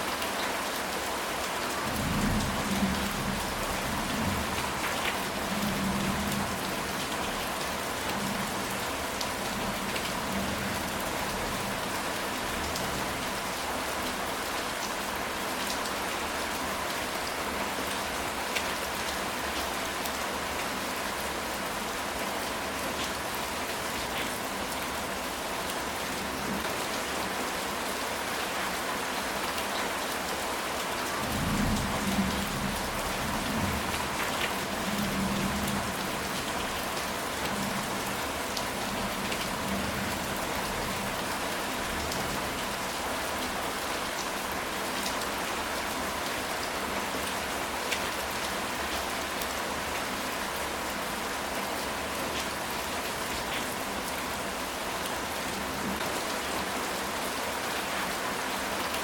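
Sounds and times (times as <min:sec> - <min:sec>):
rain on a tile roof: 0:00.0 - 0:59.0.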